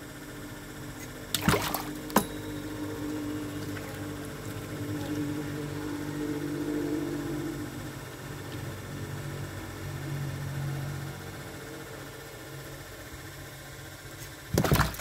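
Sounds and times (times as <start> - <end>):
steady motor hum: 0.0 - 15.0.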